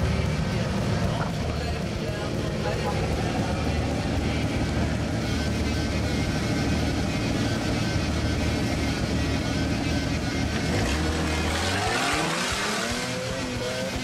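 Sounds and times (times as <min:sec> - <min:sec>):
engine idling and revving: 0:00.0 - 0:14.0.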